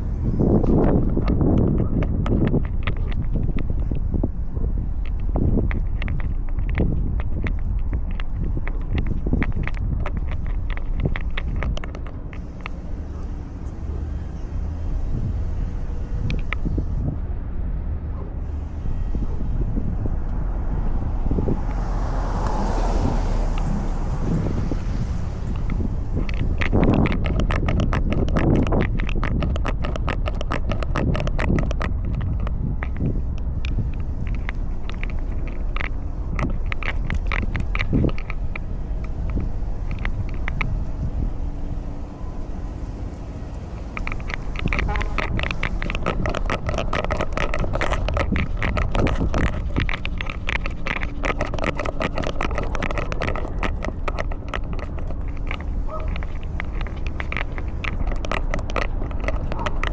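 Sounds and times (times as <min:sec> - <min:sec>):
collar camera clicks and crackles: 0:00.0 - 0:59.9
low steady rumble: 0:00.0 - 0:59.9.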